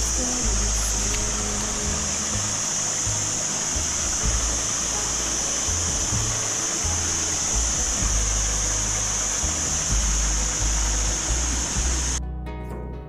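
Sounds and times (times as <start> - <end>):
water rushing over rocks: 0.0 - 12.2
background music with bass line: 0.0 - 13.0.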